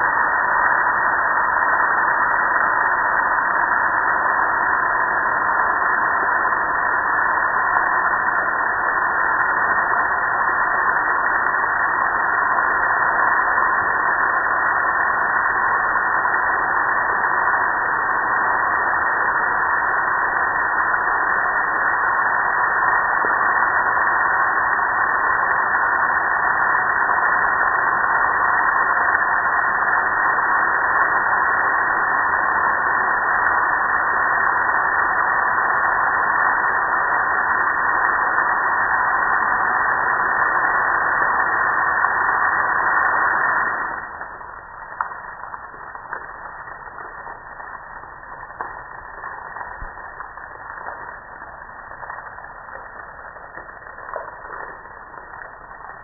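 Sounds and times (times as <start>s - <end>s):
water streaming: 0.0s - 56.0s.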